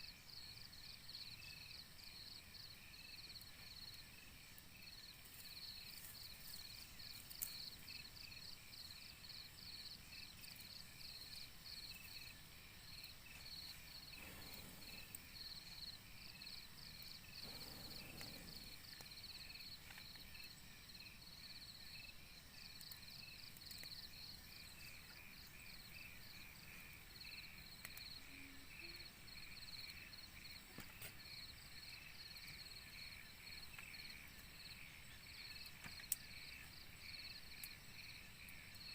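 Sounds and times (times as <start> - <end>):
forest background hiss: 0.0 - 38.9
insects chirping: 0.0 - 38.9.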